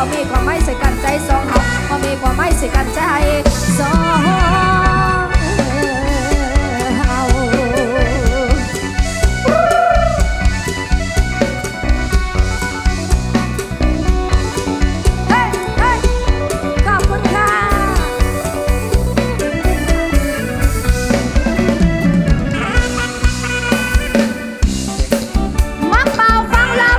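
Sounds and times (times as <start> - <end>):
drum kit beat: 0.0 - 26.9
ornamented lead melody: 0.0 - 26.9.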